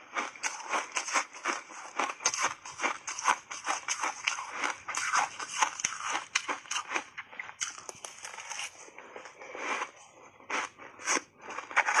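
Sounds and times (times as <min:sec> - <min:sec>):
crunching shaved ice: 0:00.0 - 0:12.0.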